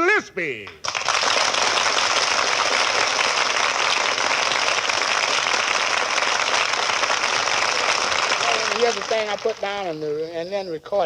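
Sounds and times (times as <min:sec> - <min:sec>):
audience applauding: 0:00.7 - 0:10.3.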